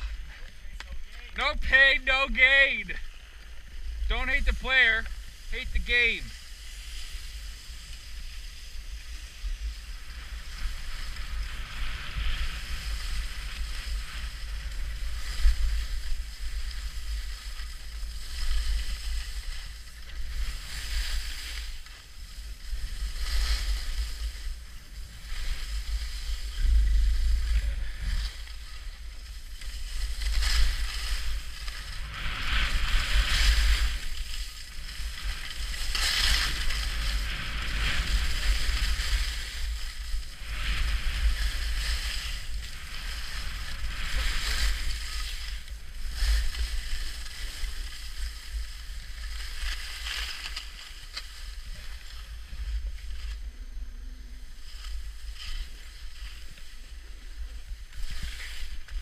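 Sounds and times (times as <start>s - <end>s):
skis scraping over snow: 0.0s - 53.5s, 54.4s - 59.0s.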